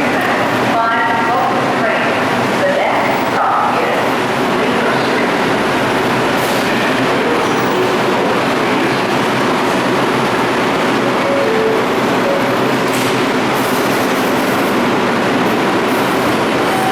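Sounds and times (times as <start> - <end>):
subway train rumbling on rails: 0.0 - 16.9.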